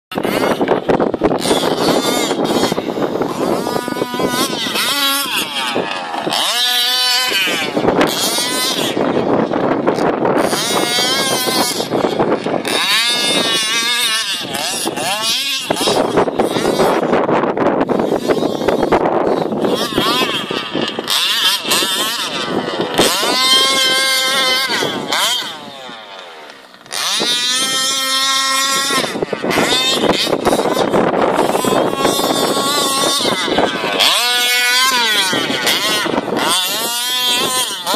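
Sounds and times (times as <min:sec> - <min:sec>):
two-stroke engine revving: 0:00.1 - 0:37.9.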